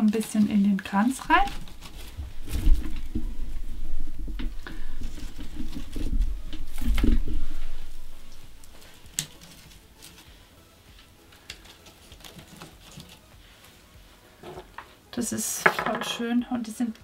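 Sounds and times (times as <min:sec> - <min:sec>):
hands rustling dry twigs: 0:00.0 - 0:14.3.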